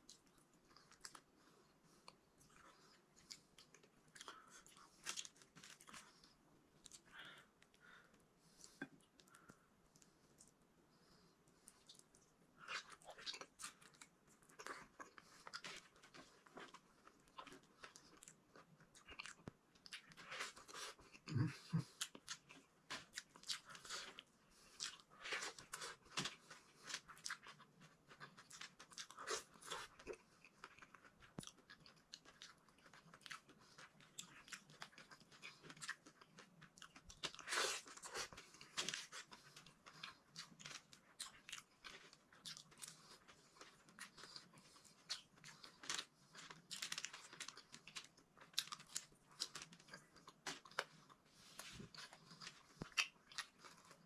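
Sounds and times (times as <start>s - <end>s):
person chewing crunchy food: 0.0s - 10.6s, 11.6s - 54.0s.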